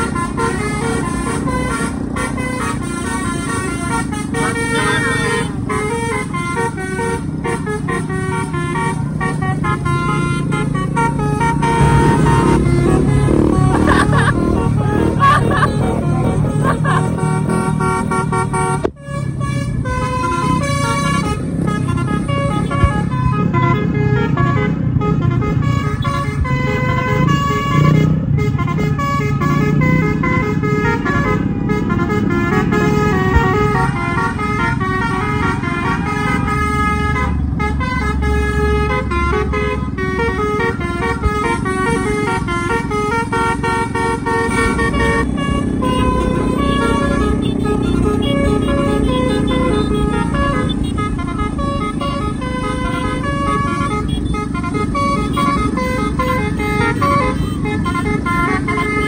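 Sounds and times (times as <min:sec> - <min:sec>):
bus horn melody: 0:00.0 - 0:59.0.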